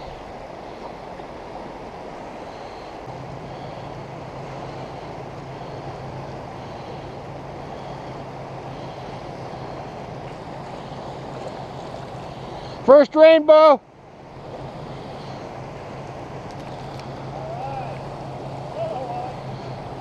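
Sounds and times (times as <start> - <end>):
boat engine drone: 0.0 - 20.0
rushing water and wind: 0.0 - 20.0.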